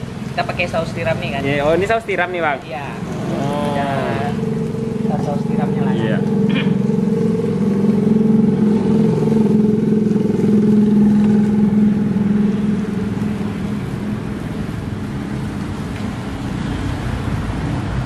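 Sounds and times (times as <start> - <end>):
motor engine humming: 0.0 - 16.5.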